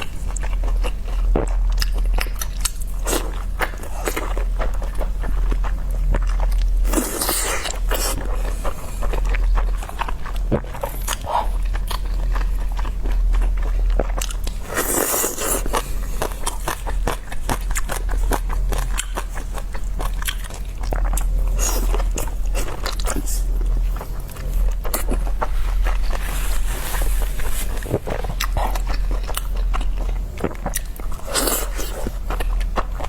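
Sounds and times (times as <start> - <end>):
chewing and biting dumplings: 0.0 - 33.0
steady low hum: 0.0 - 33.0.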